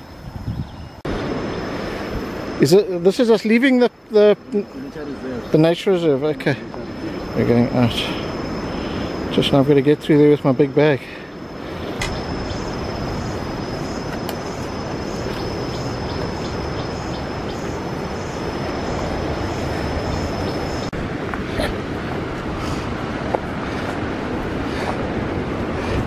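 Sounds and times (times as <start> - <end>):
rushing outdoor noise: 0.0 - 26.0
high whine: 1.0 - 24.9.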